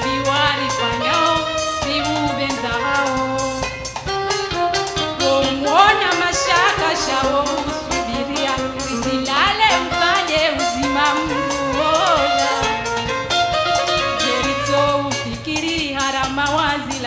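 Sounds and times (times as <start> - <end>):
woman singing into microphone: 0.0 - 3.8, 5.0 - 13.1, 13.9 - 17.0
band with percussion beat: 0.0 - 17.0.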